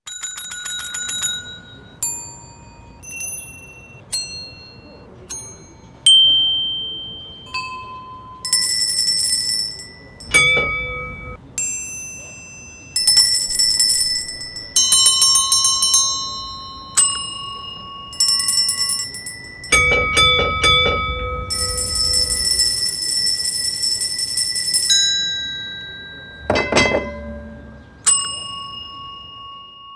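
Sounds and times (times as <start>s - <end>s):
rapid bell ringing: 0.1s - 29.9s
small bell strikes ringing: 0.1s - 29.9s.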